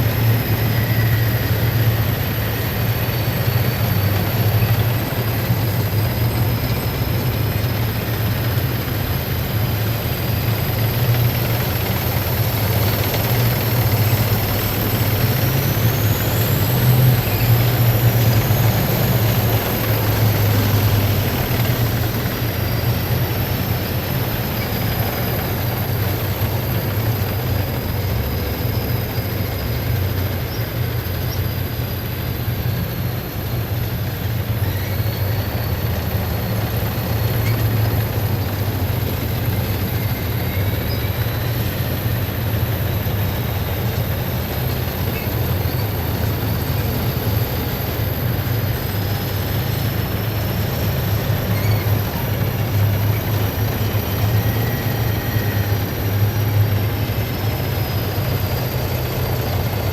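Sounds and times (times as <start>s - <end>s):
heavy vehicles engine drone: 0.0s - 59.9s.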